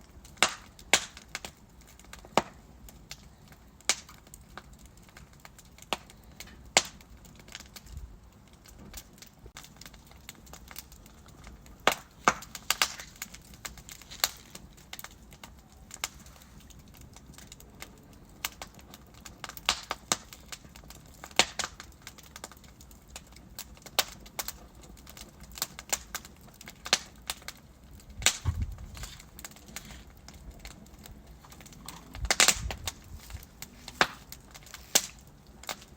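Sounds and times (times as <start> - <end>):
logs crackling in a fireplace: 0.0 - 35.9.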